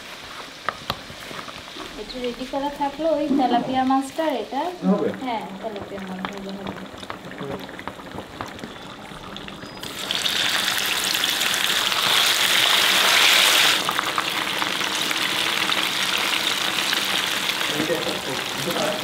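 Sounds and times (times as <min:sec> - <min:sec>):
fish deep-frying in hot oil: 0:00.0 - 0:19.0.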